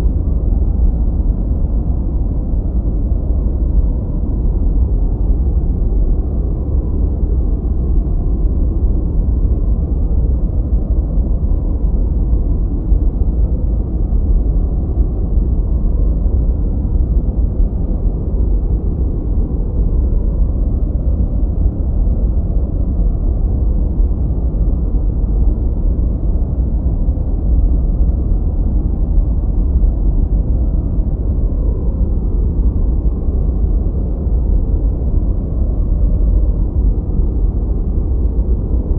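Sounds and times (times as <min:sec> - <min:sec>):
low muffled white noise: 0:00.0 - 0:38.9.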